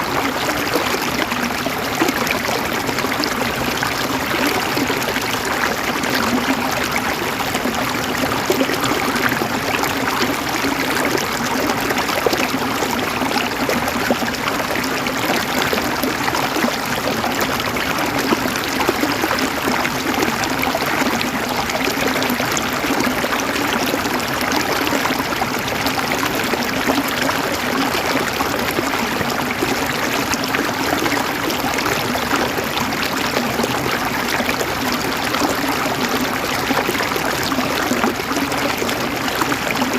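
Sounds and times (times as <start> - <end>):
stream water over rocks: 0.0 - 39.9.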